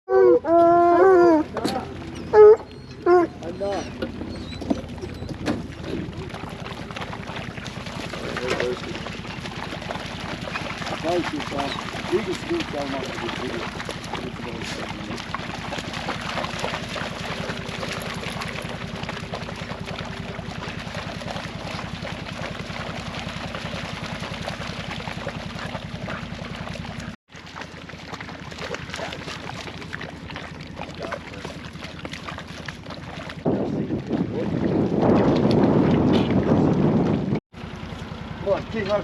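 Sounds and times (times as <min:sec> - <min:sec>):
vehicle engine drone: 0:00.1 - 0:33.8, 0:35.5 - 0:39.0
wind: 0:00.1 - 0:39.0.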